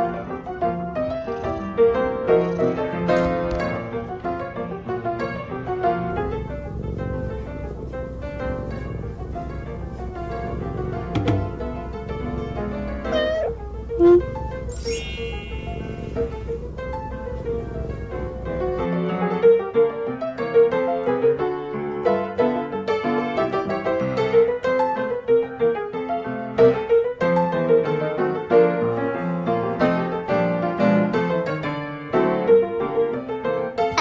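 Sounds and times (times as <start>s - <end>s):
piano music: 0.0s - 33.4s.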